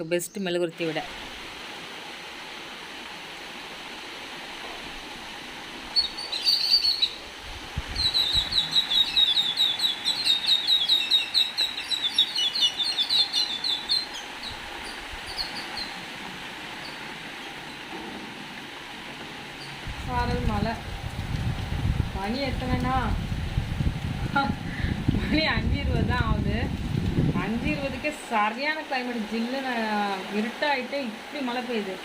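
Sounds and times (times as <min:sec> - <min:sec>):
hiss of falling rain: 0:00.0 - 0:32.0.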